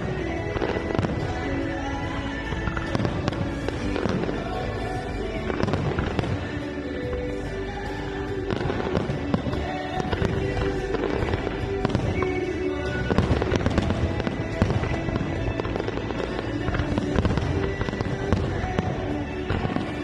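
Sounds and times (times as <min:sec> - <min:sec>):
fireworks bursting and crackling: 0:00.0 - 0:20.0
music playing: 0:00.0 - 0:20.0.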